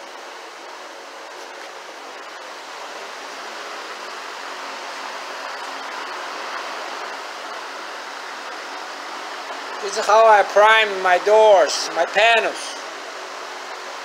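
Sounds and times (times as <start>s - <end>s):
fan blowing air: 0.0s - 14.0s.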